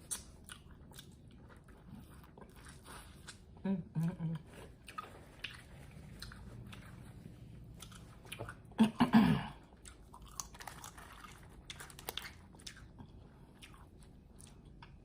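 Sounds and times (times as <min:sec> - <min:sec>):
chewing and biting food: 0:00.0 - 0:03.6, 0:04.4 - 0:08.8, 0:09.6 - 0:15.0.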